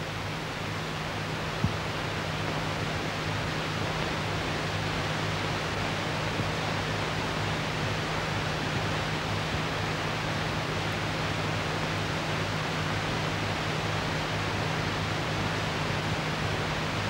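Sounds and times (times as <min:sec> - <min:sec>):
film soundtrack hiss and hum: 0:00.0 - 0:17.0.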